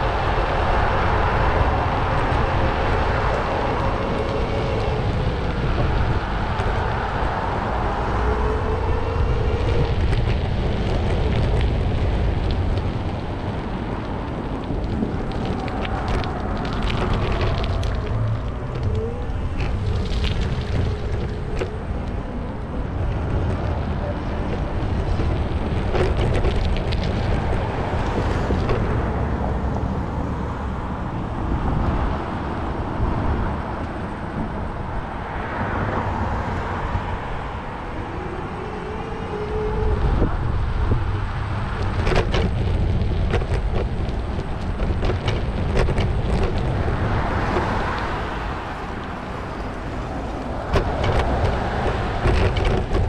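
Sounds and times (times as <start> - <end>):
street traffic: 0.0 - 53.0
wind rumbling on microphone: 0.0 - 53.0.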